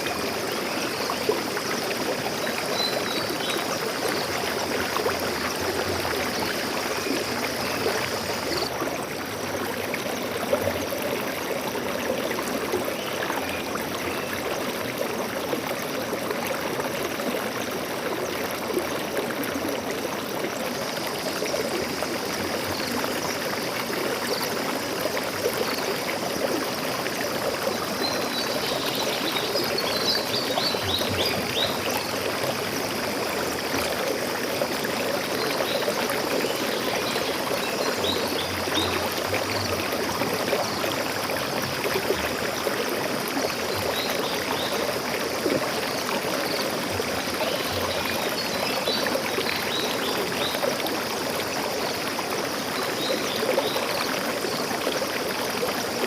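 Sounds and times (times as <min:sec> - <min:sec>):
stream water flowing over rocks: 0:00.0 - 0:56.0.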